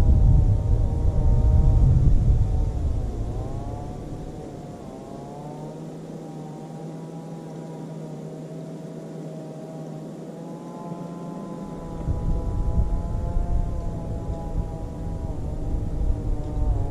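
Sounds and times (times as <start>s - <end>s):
boat motor rumbling: 0.0s - 7.4s, 10.6s - 16.9s.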